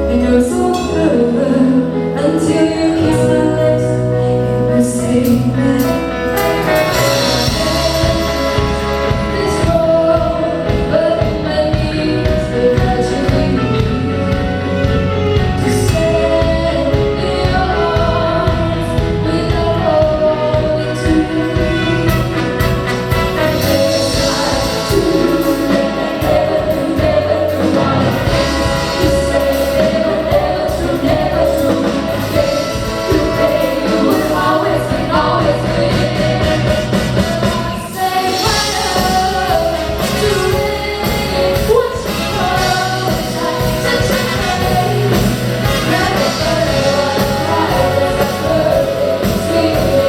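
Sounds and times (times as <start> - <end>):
bass: 0.0 - 50.0
live band playing pop ballad: 0.0 - 50.0
vocalists singing: 0.0 - 50.0
steady drum beat: 5.8 - 50.0.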